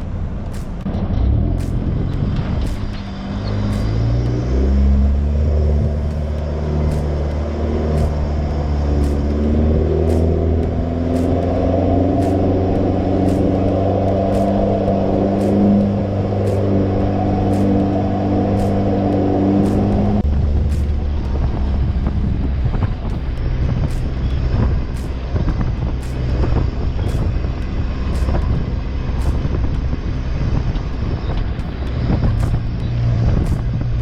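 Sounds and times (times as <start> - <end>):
vehicle engine driving: 0.0 - 34.0.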